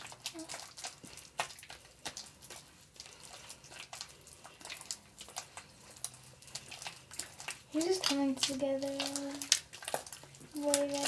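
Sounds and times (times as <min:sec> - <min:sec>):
slime being kneaded: 0:00.0 - 0:11.0.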